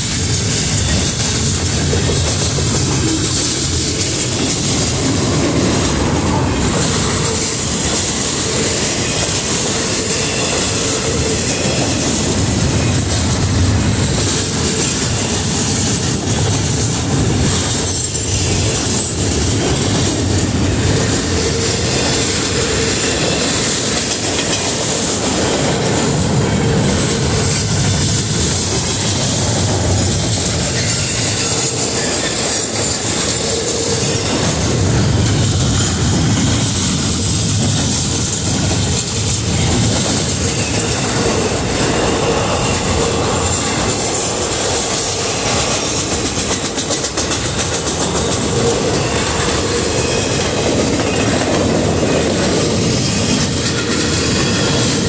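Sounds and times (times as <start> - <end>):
freight train rumble and rattle: 0.0 - 55.0.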